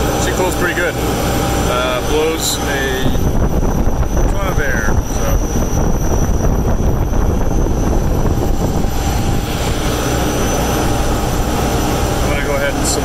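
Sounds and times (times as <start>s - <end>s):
loud machinery drone: 0.0s - 13.0s
rush of air from blower: 0.0s - 13.0s.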